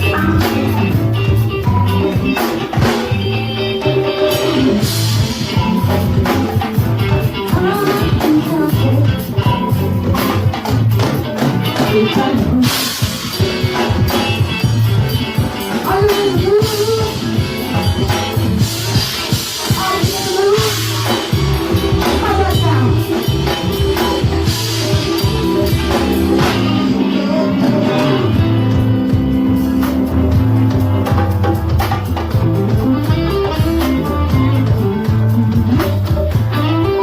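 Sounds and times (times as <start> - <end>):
live band playing: 0.0 - 37.0.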